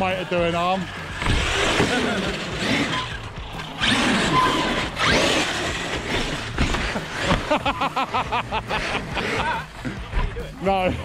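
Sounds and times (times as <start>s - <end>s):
rc truck motors whining: 0.0s - 10.6s.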